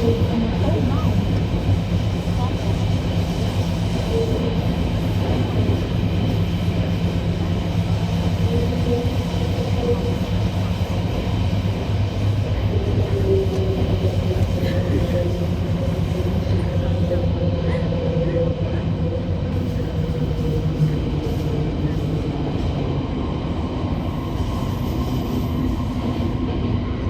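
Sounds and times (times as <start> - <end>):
train rumble and hum: 0.0 - 27.0.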